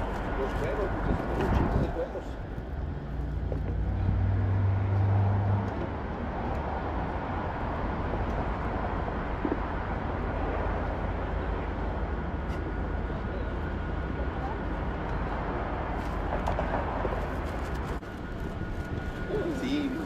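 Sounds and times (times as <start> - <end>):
outdoor rumble and hiss: 0.0 - 20.0.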